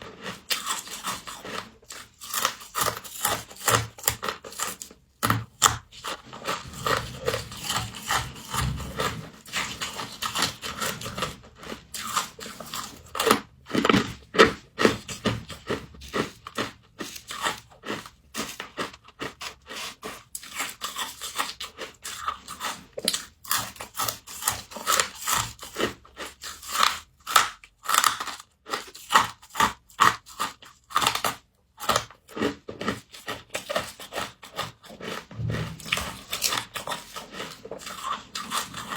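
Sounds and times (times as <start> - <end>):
frost being chewed crunching: 0.0 - 38.9.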